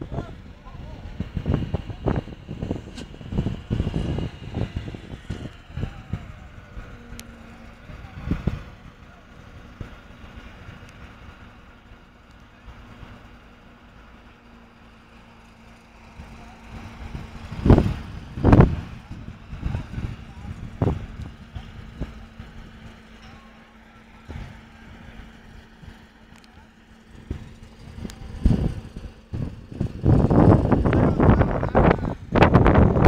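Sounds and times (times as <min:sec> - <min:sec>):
crane engine humming: 0:00.0 - 0:33.0
low rumbling: 0:00.0 - 0:33.0.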